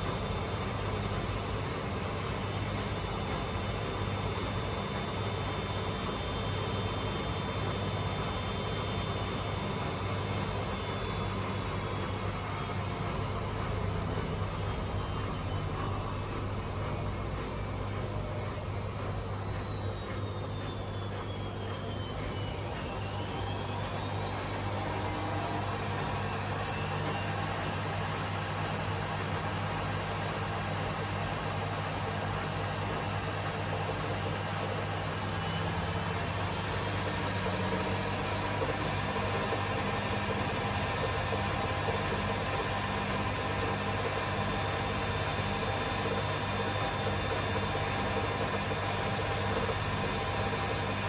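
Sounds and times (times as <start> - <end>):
high motor whine: 0.0 - 51.0
washing machines spinning: 0.0 - 51.0.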